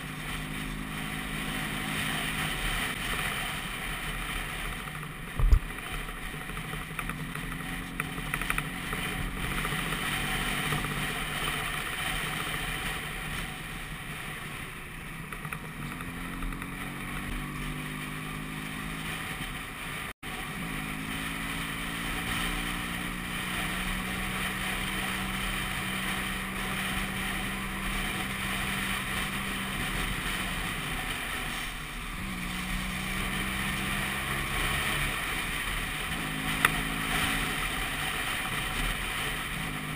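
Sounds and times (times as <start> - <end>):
scooter engine accelerating: 0.0 - 39.9.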